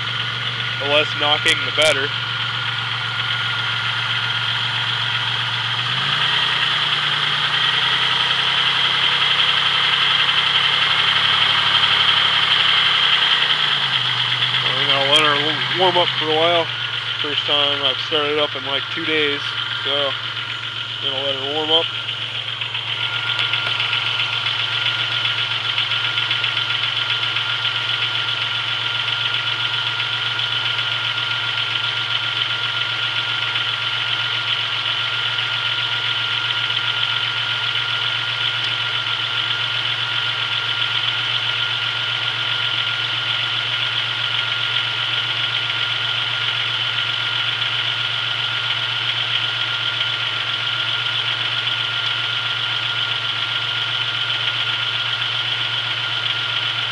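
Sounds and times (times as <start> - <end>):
car engine idling with knock: 0.0 - 56.9.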